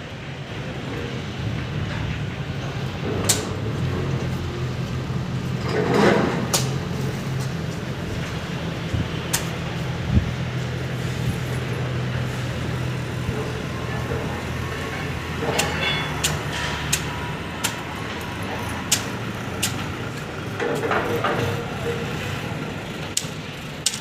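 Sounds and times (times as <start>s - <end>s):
train rumbling: 0.0s - 24.0s
metallic clicks of wheels on rails: 0.6s - 24.0s.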